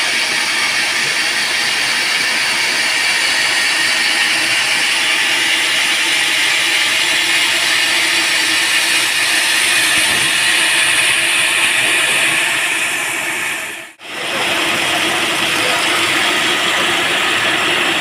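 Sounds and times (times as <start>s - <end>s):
band saw cutting wood: 0.0s - 18.0s.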